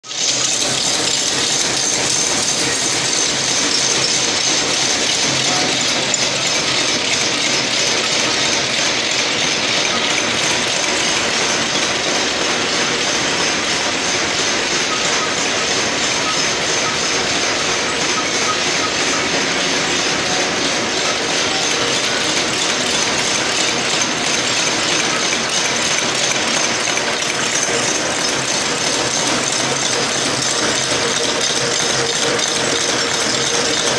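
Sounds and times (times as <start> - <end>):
machine rapid mechanical clatter: 0.0 - 33.9.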